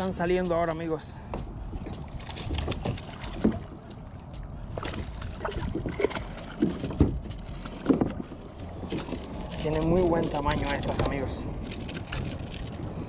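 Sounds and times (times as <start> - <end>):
water splashing and sloshing: 0.0 - 13.0
wind rumble on microphone: 0.0 - 13.0.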